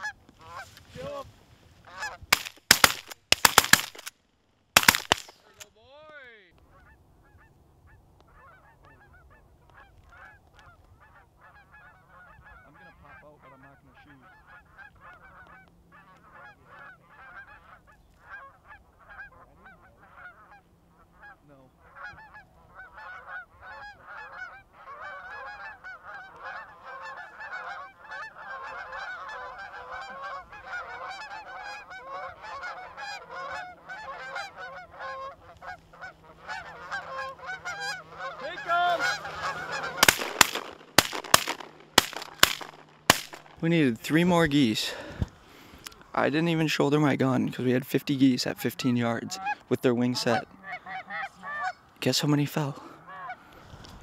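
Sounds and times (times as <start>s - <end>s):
geese honking and cackling: 0.0s - 0.8s, 1.8s - 4.1s, 6.6s - 53.8s.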